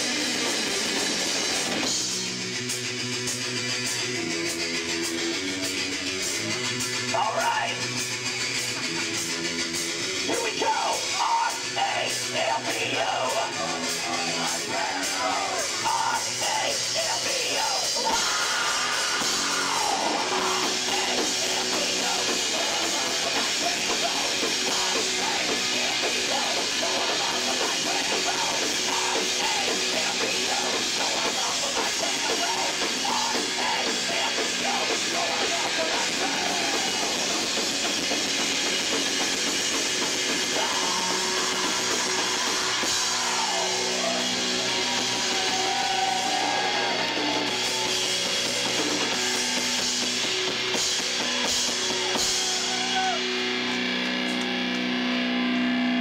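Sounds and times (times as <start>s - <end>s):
live punk rock band: 0.0s - 56.0s
yelled vocals: 4.2s - 54.7s.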